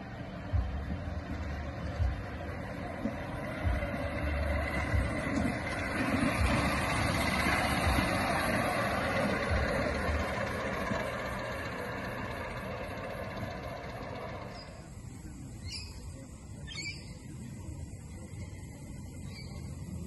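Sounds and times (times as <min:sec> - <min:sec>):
model steam locomotive running: 0:00.0 - 0:20.0.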